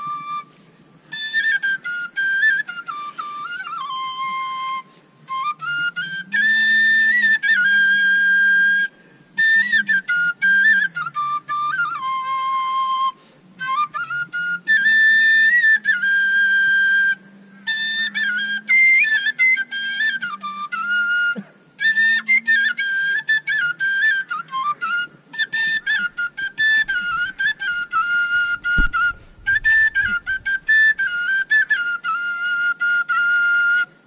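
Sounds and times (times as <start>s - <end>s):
wooden flute tune: 0.0s - 34.0s.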